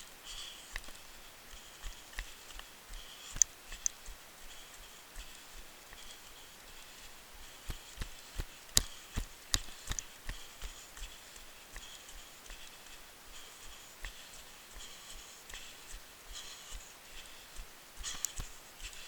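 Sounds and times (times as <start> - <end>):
running footsteps on trail: 0.0 - 19.0.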